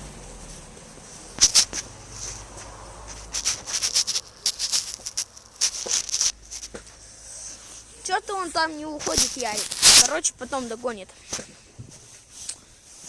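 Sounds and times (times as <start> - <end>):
scratchy rustling and crackling: 0.2 - 13.0.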